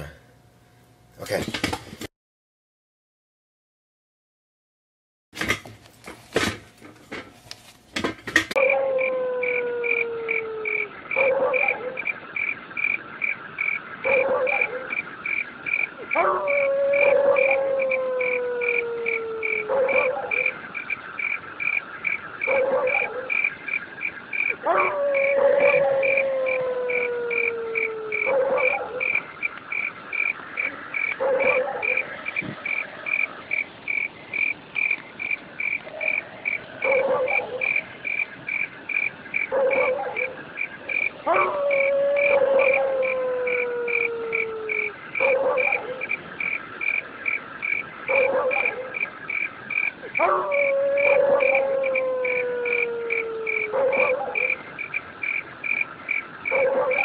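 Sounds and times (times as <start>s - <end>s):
insects chirping: 6.4s - 57.0s.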